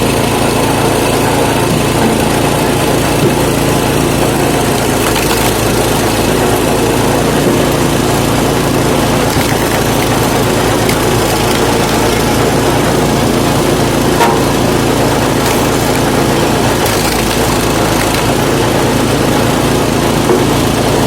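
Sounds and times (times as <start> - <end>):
petrol engine running: 0.0 - 21.0.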